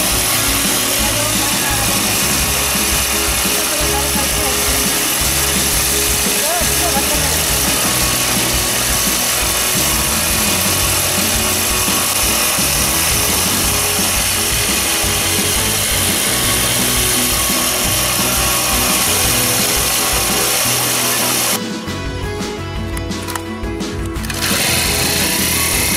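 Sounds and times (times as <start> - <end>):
water gushing from pipe: 0.0 - 21.6
petrol engine running: 0.0 - 25.9.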